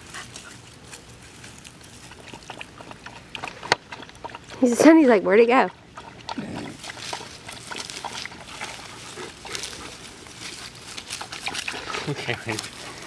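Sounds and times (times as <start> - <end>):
dog lapping water from bowl: 1.8 - 13.0.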